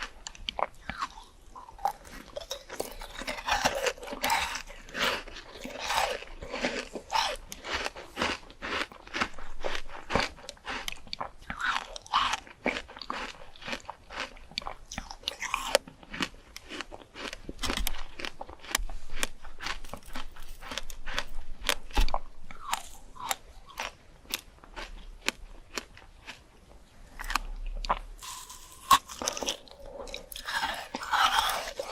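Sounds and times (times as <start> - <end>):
person chewing crunchy fruit: 0.0 - 31.9.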